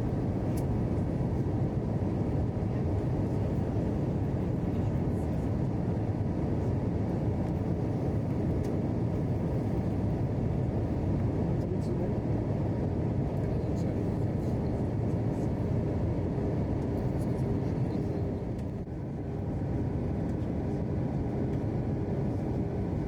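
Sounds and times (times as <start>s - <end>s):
airplane cabin noise in flight: 0.0s - 23.0s.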